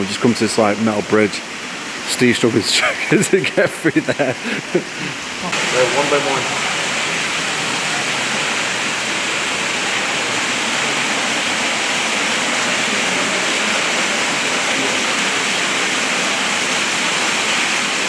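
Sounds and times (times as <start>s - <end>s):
fast-flowing water rushing: 0.0s - 18.0s.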